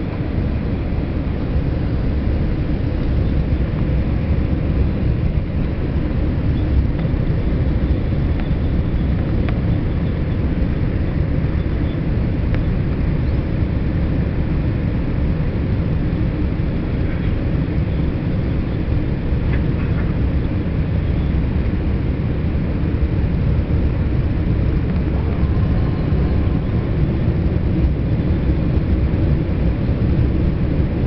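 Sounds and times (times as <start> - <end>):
aircraft engine rumble in cabin: 0.0 - 31.0.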